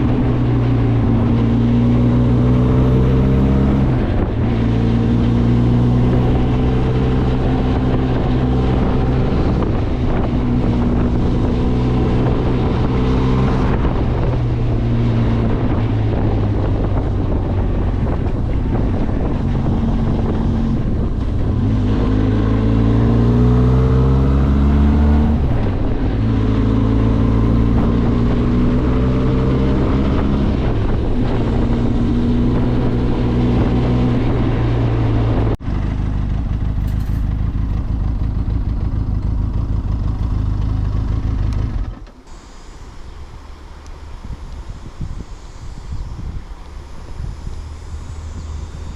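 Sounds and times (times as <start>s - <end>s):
wind on microphone: 0.0s - 35.6s, 42.8s - 48.9s
motorcycle engine running: 0.0s - 48.9s.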